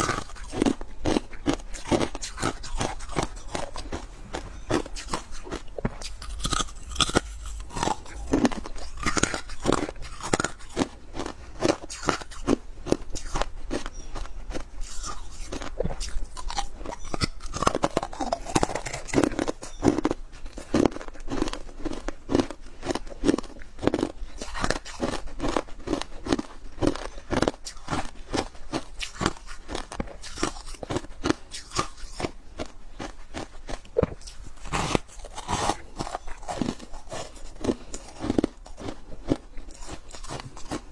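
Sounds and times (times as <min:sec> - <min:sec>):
frost being chewed crunching: 0:00.0 - 0:40.9.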